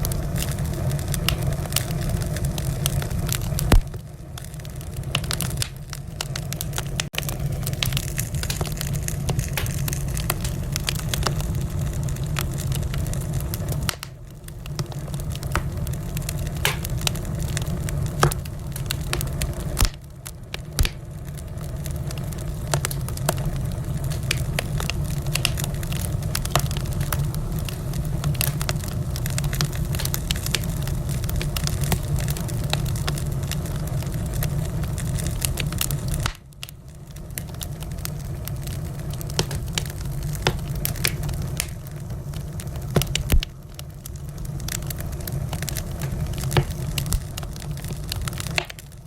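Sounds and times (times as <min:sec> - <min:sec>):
low fire rumble: 0:00.0 - 0:49.0
wood fire crackling and popping: 0:00.0 - 0:49.0.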